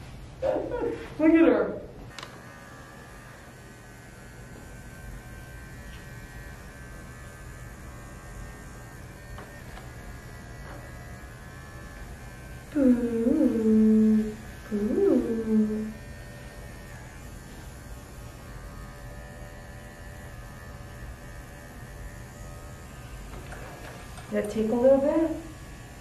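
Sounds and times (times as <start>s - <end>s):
hair clipper buzzing: 0.5s - 26.0s.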